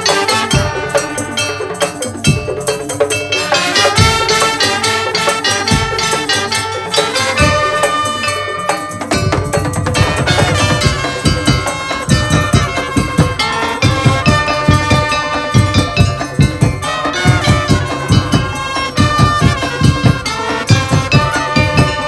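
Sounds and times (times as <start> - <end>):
drum and wood-block beats: 0.0 - 22.0
ringing bell-like melody: 0.0 - 22.0.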